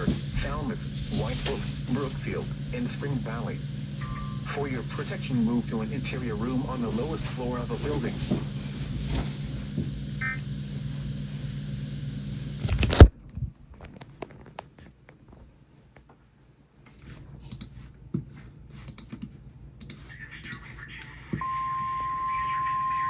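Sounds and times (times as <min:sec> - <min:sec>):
faint radio static crackles: 0:00.0 - 0:18.7, 0:19.4 - 0:23.0
radio hum and hiss: 0:00.0 - 0:18.7, 0:19.4 - 0:23.0.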